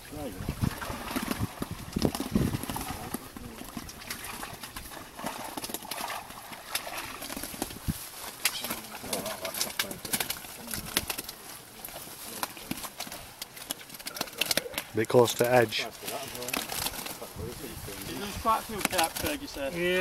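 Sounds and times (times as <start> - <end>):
wet net mesh rustling: 0.7 - 19.7.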